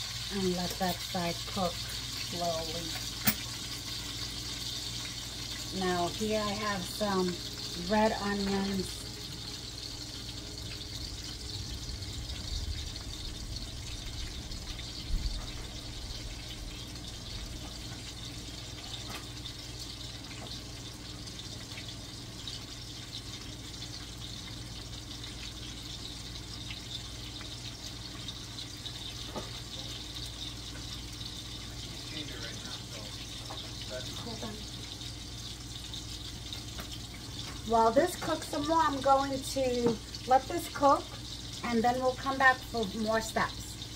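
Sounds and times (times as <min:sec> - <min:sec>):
sausages sizzling in a pan: 0:00.0 - 0:43.9.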